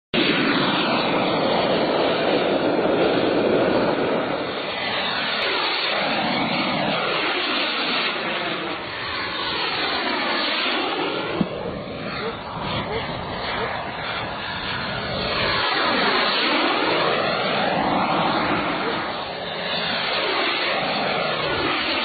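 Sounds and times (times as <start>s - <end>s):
model jet plane flying past: 0.2s - 22.0s.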